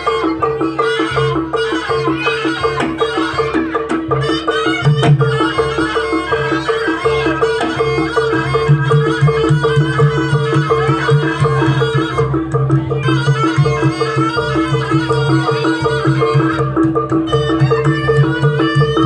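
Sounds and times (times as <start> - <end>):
reedy shawm melody: 0.0 - 19.0
tuned percussion two-note beat: 0.0 - 19.0.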